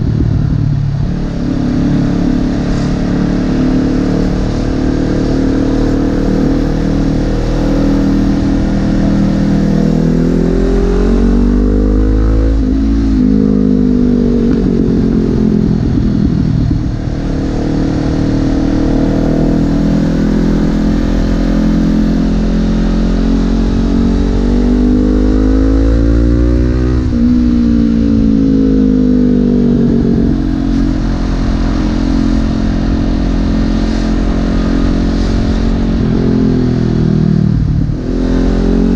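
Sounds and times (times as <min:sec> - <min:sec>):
low rumble: 0:00.0 - 0:38.9
motorcycle engine accelerating: 0:00.0 - 0:38.9.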